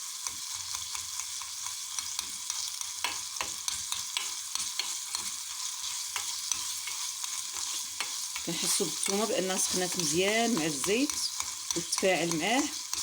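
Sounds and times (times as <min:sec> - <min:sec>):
garlic sizzling in a pot: 0:00.0 - 0:13.0
utensil stirring against pot: 0:00.2 - 0:13.0.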